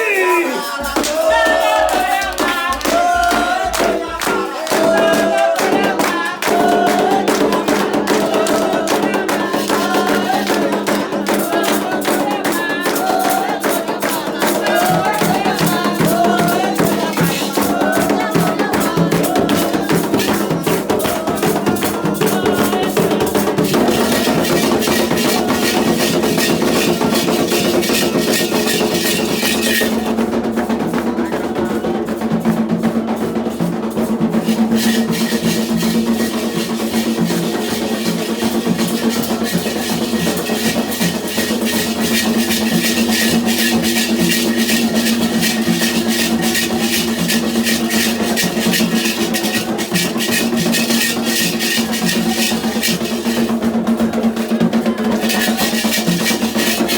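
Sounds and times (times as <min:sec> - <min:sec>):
hand drums and percussion: 0:00.0 - 0:56.9
people singing: 0:00.0 - 0:56.9.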